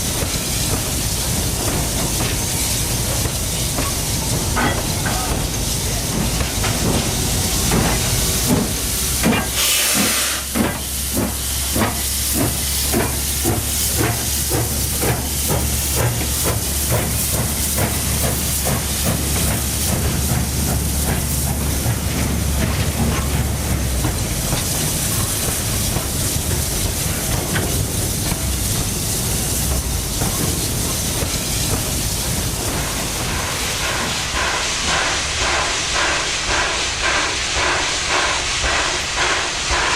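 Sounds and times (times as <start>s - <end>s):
locomotive exhaust chuffs: 0.0s - 39.9s
steam hissing: 0.0s - 39.9s.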